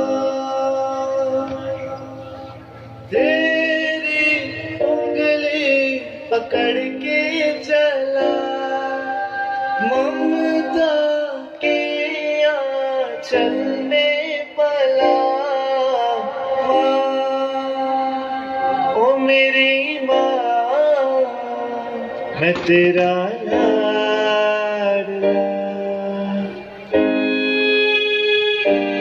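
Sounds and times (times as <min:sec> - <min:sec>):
song with sliding notes: 0:00.0 - 0:29.0.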